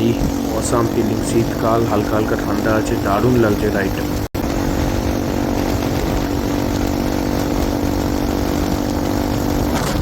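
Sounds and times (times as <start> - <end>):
motorcycle engine cruising: 0.0 - 10.0
wind rumbling on microphone: 0.0 - 10.0.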